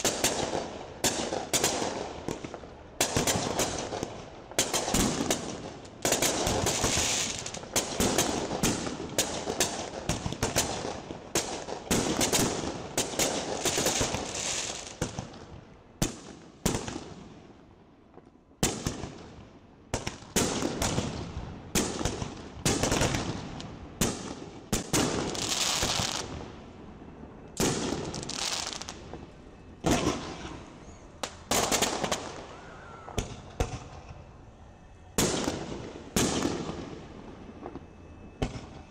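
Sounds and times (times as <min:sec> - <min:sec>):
fireworks bangs and crackle: 0:00.0 - 0:34.3, 0:35.1 - 0:38.9.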